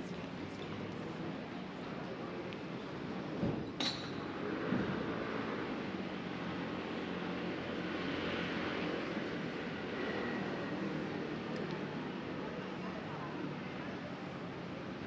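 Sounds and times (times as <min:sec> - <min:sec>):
busy street ambience: 0:00.0 - 0:15.0.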